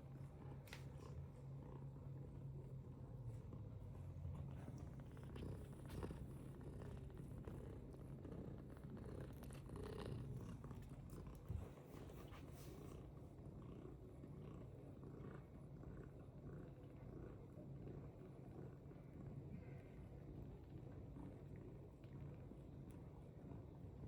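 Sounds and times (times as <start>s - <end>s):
cat purring: 1.0s - 24.0s.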